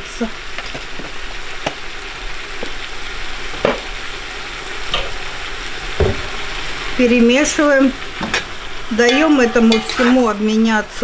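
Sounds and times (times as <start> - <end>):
vegetables sizzling and crackling: 0.0 - 11.0.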